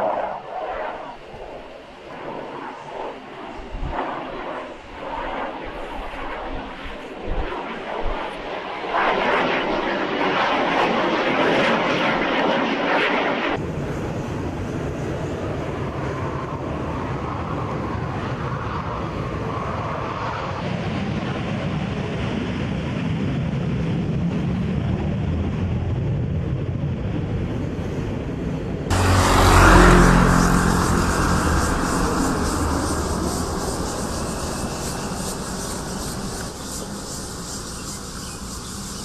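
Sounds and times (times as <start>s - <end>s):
jet engine roar: 0.0s - 22.3s, 28.7s - 39.0s.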